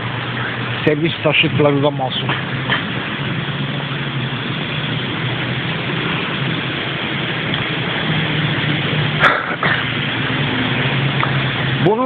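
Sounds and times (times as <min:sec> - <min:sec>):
vehicle engines idling: 0:00.0 - 0:12.0.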